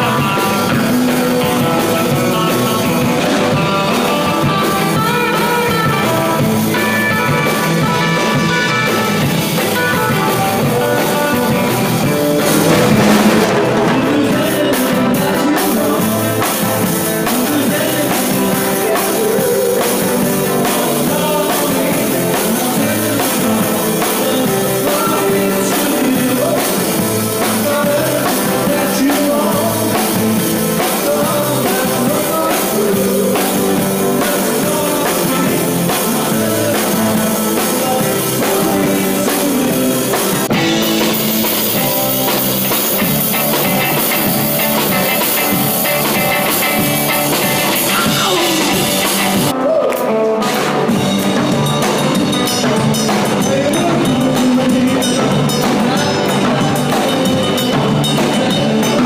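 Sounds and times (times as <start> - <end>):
bass guitar: 0.0 - 59.0
drum kit: 0.0 - 59.0
electric guitars: 0.0 - 59.0
person singing: 0.0 - 59.0.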